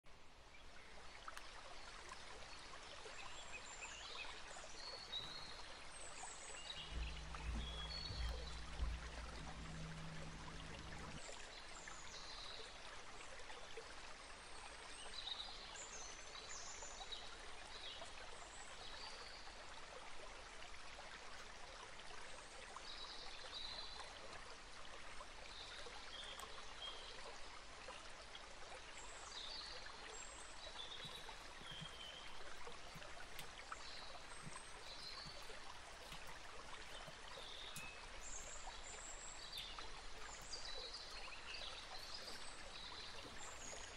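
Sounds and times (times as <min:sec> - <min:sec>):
running water: 0:00.5 - 0:43.9.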